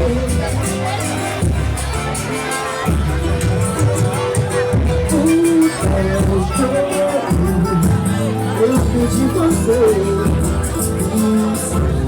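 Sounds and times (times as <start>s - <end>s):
bass: 0.0s - 12.0s
plucked strings: 0.0s - 12.0s
steady percussion: 0.0s - 12.0s.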